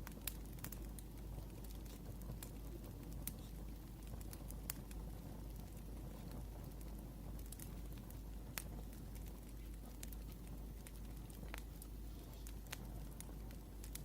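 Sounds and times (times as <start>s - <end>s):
wood fire crackling and popping: 0.0s - 14.0s
hiss of burning: 0.1s - 14.0s.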